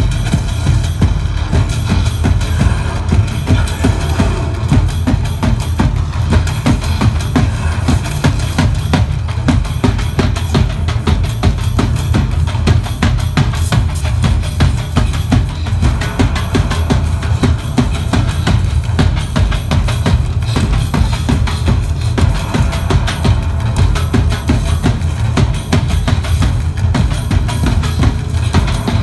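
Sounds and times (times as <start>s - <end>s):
fast steady drumming: 0.0s - 29.0s
heavy bass drum: 0.0s - 29.0s.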